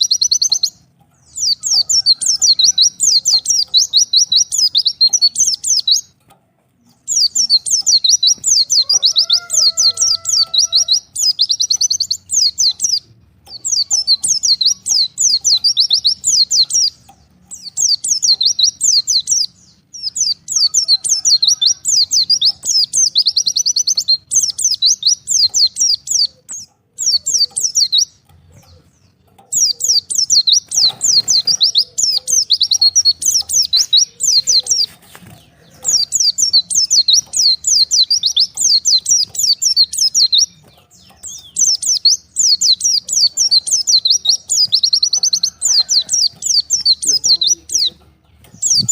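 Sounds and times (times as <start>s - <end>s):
bird twittering chatter: 0.0s - 48.9s.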